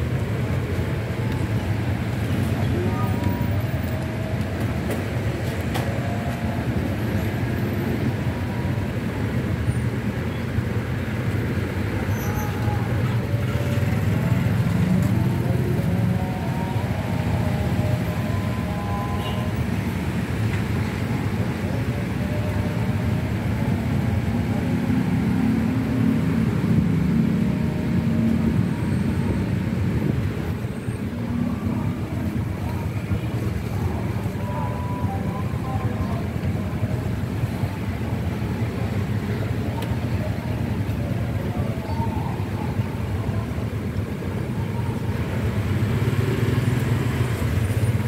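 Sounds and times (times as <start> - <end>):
road traffic: 0.0 - 48.0
faint voices: 0.1 - 48.0.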